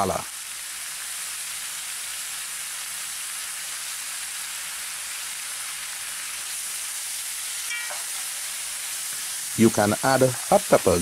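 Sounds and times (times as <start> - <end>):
fruit sizzling in hot oil: 0.0 - 11.0.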